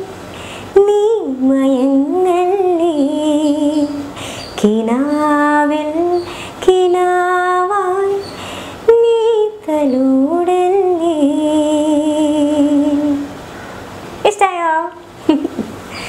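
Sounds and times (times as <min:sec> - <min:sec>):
woman singing unaccompanied: 0:00.0 - 0:13.4, 0:14.2 - 0:16.0.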